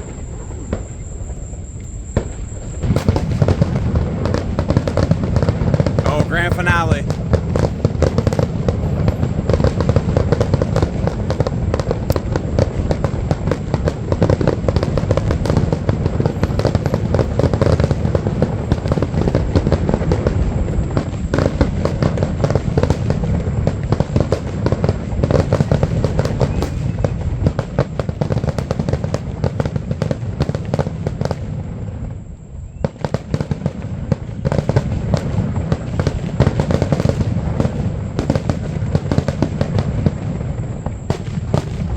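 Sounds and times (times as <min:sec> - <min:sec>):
fireworks crackling: 0:00.0 - 0:41.9
fireworks shells booming: 0:00.0 - 0:41.9.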